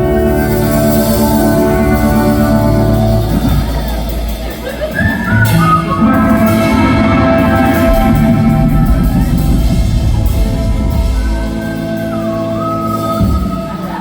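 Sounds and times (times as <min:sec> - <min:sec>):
bass and drums: 0:00.0 - 0:14.0
live country band playing: 0:00.0 - 0:14.0.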